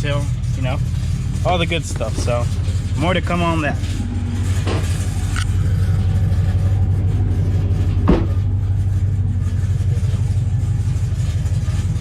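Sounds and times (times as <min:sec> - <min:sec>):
truck engine exhaust rumble: 0:00.0 - 0:12.0.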